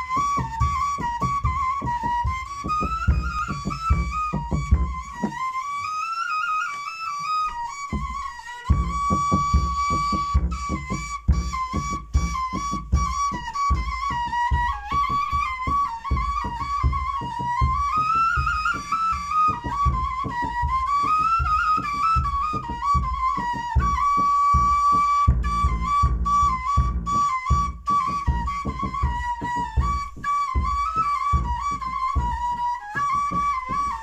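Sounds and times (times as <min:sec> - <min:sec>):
low thumping beat: 0:00.0 - 0:05.4, 0:07.9 - 0:18.4, 0:22.2 - 0:33.9
end-blown flute melody: 0:00.0 - 0:34.0.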